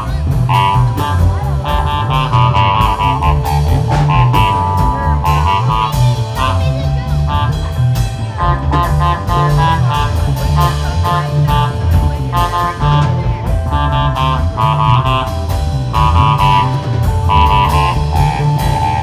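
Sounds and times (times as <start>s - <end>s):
bluesy electric guitar music: 0.0s - 19.0s.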